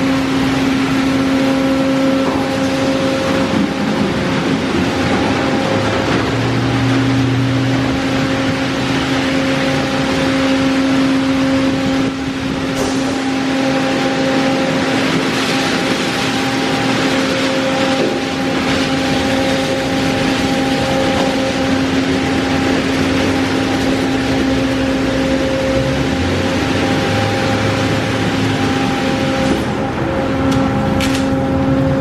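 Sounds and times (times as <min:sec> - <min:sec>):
rushing water spray: 0:00.0 - 0:30.1
machine hum: 0:00.0 - 0:32.0.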